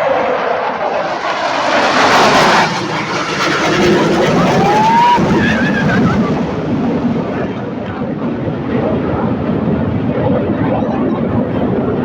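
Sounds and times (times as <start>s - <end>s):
fighter jet roar: 0.0s - 12.0s.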